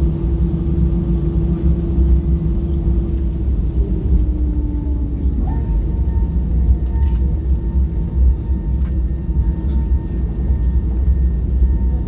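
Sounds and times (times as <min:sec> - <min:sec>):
aircraft engines idling: 0:00.0 - 0:12.0.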